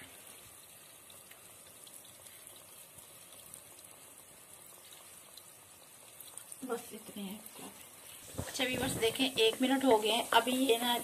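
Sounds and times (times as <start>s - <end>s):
dough sizzling in hot oil: 0.0s - 11.0s.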